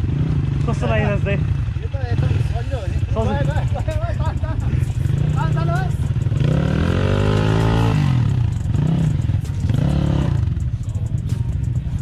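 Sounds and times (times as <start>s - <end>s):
off-road motorcycle engine revving: 0.0s - 12.0s.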